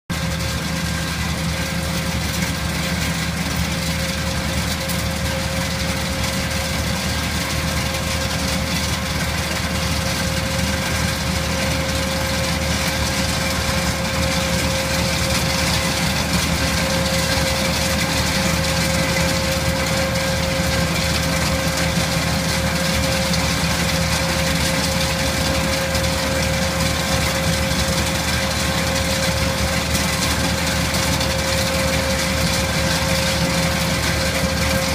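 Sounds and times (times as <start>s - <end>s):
tractor engine running: 0.1s - 34.9s
rotor whine: 2.6s - 34.9s.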